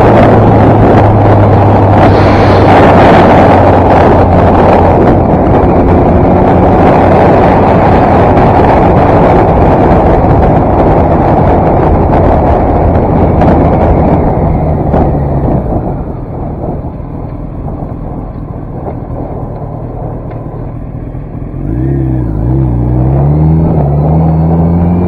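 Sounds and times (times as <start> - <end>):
motorcycle engine drone: 0.0 - 25.0
wind blasting across microphone: 0.0 - 25.0.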